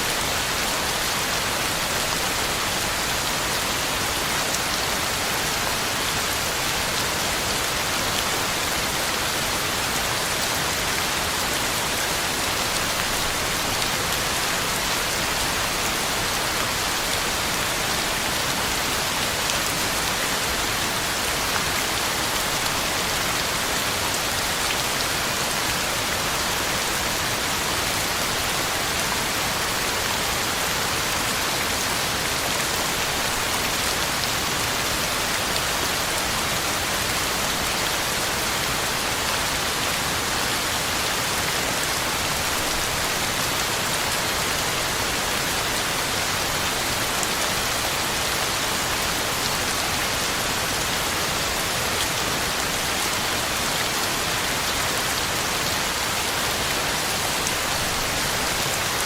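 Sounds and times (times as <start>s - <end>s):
heavy rain pattering on leaves: 0.0s - 59.0s.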